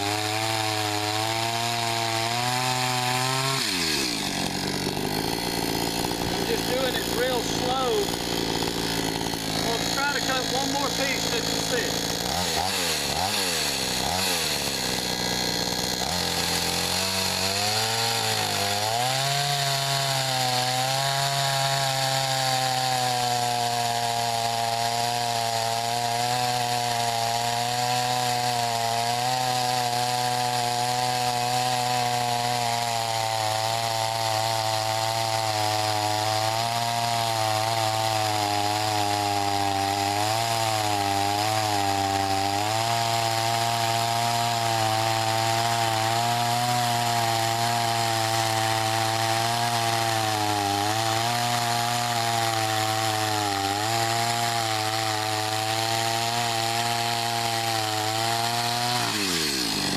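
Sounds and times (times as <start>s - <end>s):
chain cutting wood: 0.0s - 59.9s
chainsaw engine revving: 0.0s - 59.9s.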